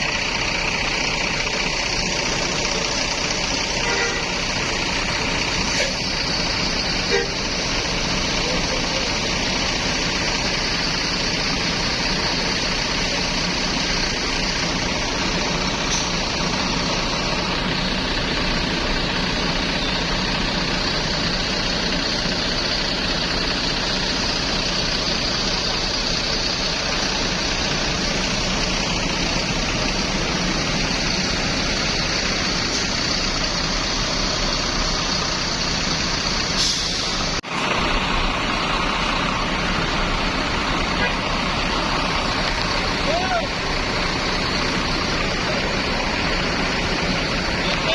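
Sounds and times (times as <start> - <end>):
heavy vehicle engine running: 0.0 - 47.9.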